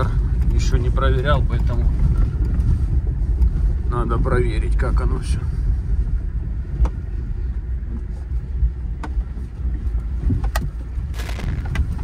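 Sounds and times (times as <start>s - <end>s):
car tyres rumbling on gravel: 0.0s - 12.0s.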